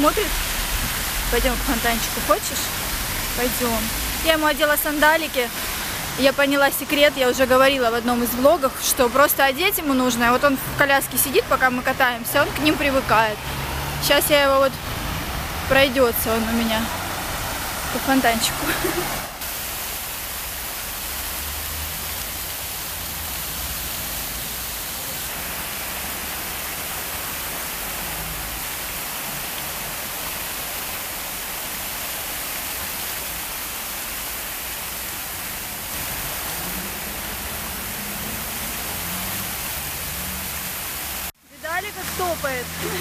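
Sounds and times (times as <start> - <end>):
fountain water splashing: 0.0 - 43.0.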